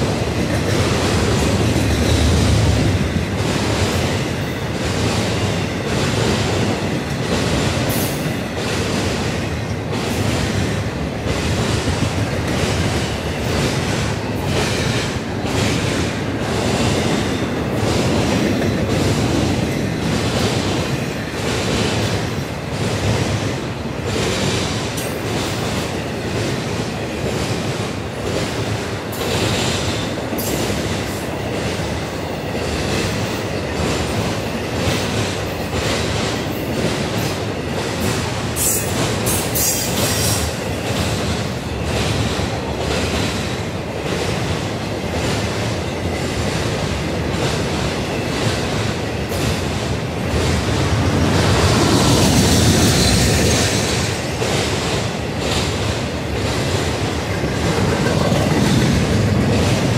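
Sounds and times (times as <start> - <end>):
rail clicks and clacks: 0.0 - 59.9
train wheels rumbling on rail: 0.0 - 59.9.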